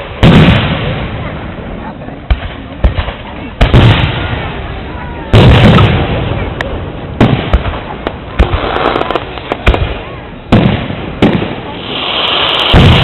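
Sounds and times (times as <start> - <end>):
fireworks booming: 0.0 - 13.0
fireworks crackle: 0.0 - 13.0.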